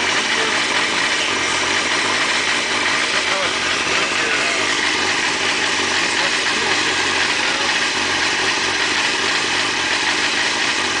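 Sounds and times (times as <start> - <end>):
motorcycle engine idling with rattle: 0.0 - 11.0.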